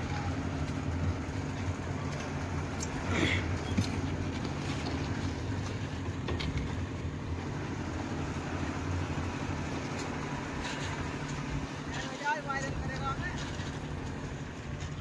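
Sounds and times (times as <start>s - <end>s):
machine engine droning: 0.0s - 15.0s.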